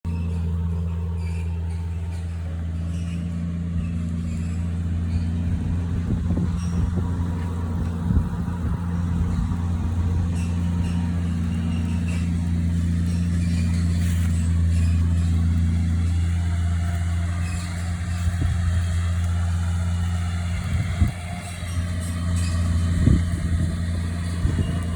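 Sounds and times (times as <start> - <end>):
machine engine humming: 0.0 - 24.9.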